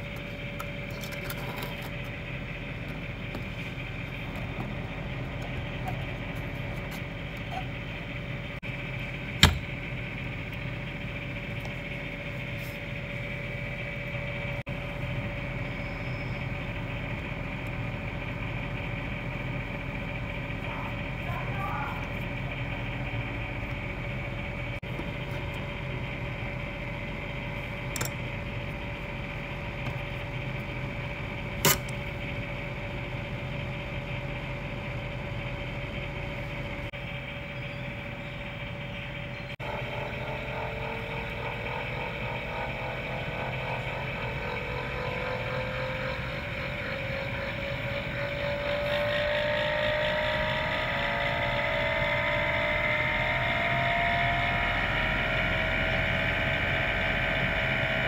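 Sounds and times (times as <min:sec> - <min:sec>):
rising whining tones: 0:00.0 - 0:58.0.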